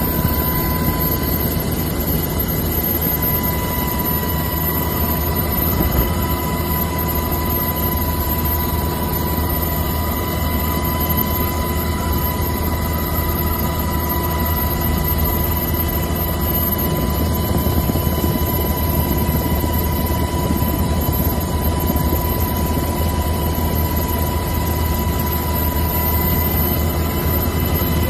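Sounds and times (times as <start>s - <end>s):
helicopter rotor and engine drone: 0.0s - 28.0s
thin steady whine: 0.0s - 28.0s.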